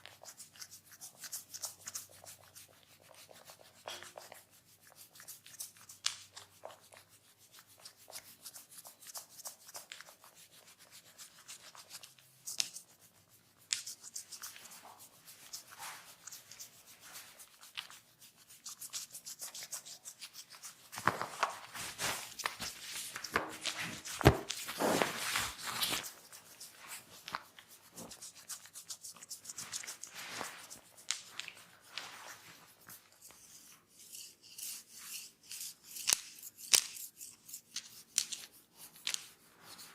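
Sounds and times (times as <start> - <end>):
hands rubbing skin and hair: 0.0 - 39.9.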